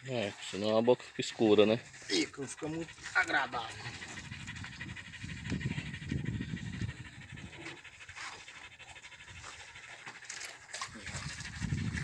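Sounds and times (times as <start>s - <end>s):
cow breathing heavily: 0.0s - 12.0s.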